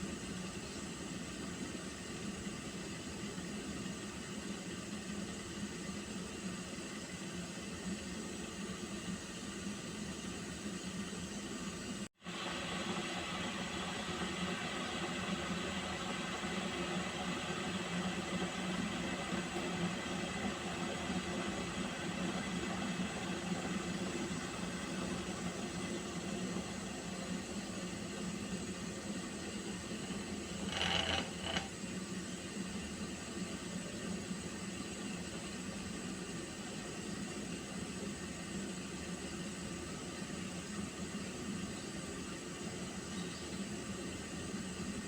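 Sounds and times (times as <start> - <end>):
pot of water hissing on stove: 0.0 - 45.0.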